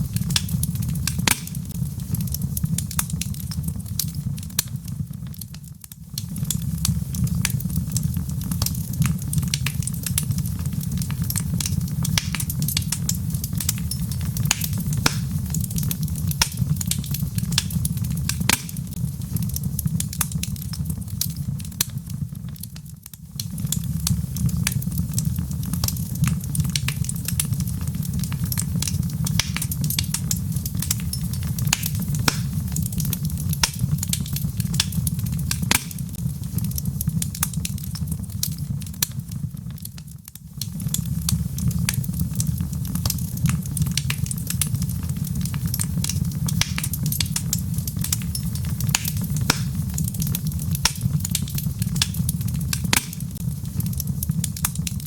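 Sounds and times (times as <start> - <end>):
log fire crackling and popping: 0.0 - 55.0
low rumble of flames: 0.0 - 55.0.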